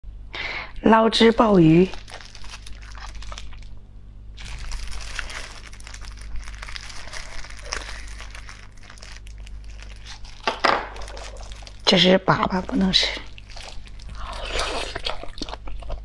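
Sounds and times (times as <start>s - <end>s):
plastic gloves crinkling: 0.9s - 16.0s.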